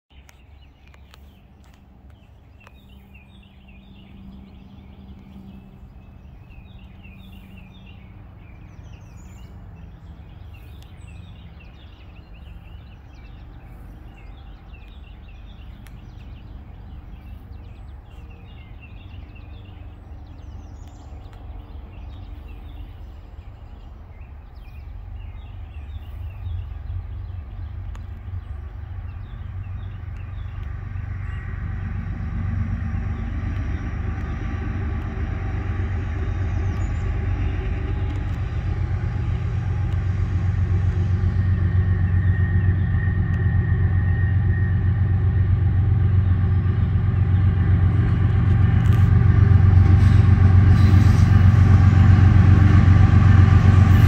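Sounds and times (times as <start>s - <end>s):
freight train rumble: 0.1s - 54.0s
songbirds chirping: 0.1s - 54.0s.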